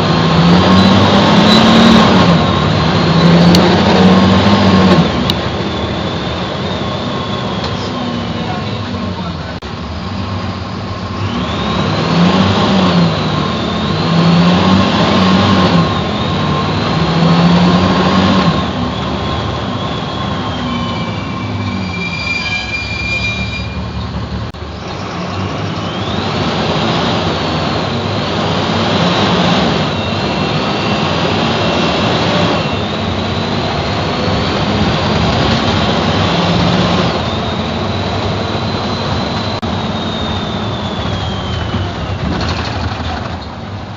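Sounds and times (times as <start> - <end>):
bus diesel engine accelerating: 0.0 - 43.9
high engine whine: 0.0 - 43.9.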